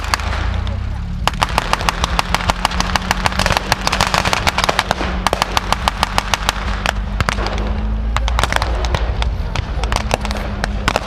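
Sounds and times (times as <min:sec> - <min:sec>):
blank gunshots: 0:00.0 - 0:11.0
steady low rumble: 0:00.0 - 0:11.0.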